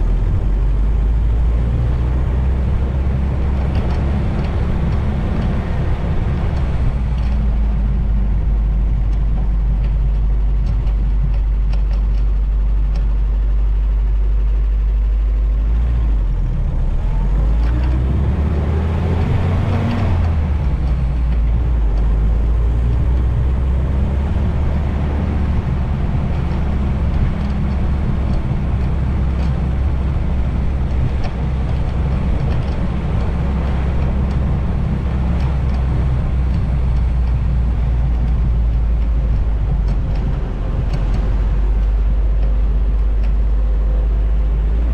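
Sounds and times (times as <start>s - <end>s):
jeep engine and road noise: 0.0s - 44.9s
wind rumble on microphone: 0.0s - 44.9s.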